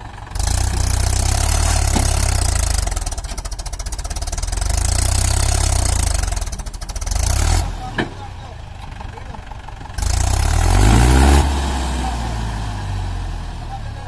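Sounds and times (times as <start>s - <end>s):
tractor diesel engine straining: 0.0s - 14.0s.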